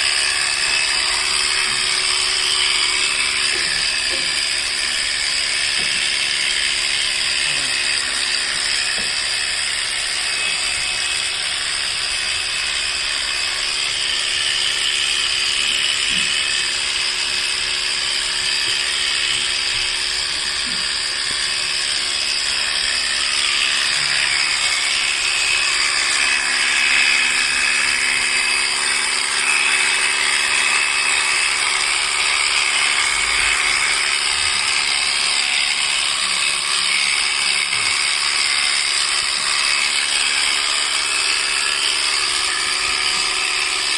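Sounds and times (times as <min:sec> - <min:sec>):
electric clippers whirring: 0:00.0 - 0:43.9.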